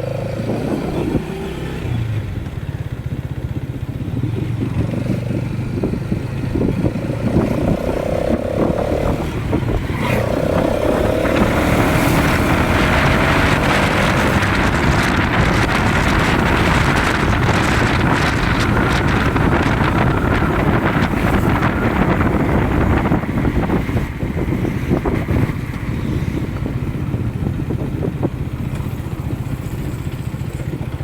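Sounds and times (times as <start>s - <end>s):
motorcycle engine running: 0.0s - 31.0s
wind noise on microphone: 0.0s - 31.0s.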